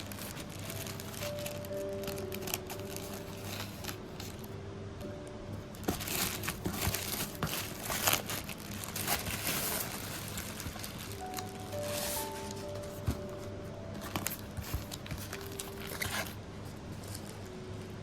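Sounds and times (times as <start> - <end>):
packaging crinkling: 0.0 - 4.5, 5.8 - 17.6
soft background music: 0.0 - 18.0.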